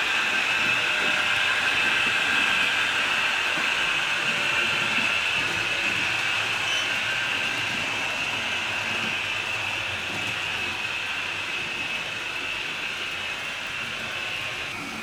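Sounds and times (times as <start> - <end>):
model train whirring on rails: 0.0 - 15.0.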